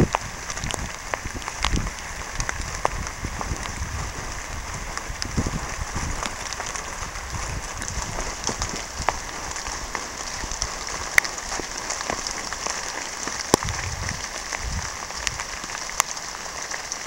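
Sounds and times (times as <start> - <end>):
heavy rain hissing: 0.0 - 17.0
raindrops tapping close by: 0.0 - 17.0.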